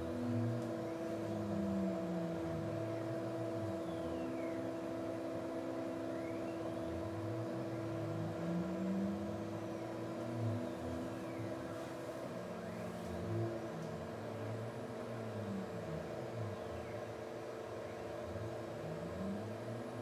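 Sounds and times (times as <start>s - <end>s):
motor whines gliding in pitch: 0.0s - 20.0s
stepper motors humming: 0.0s - 20.0s.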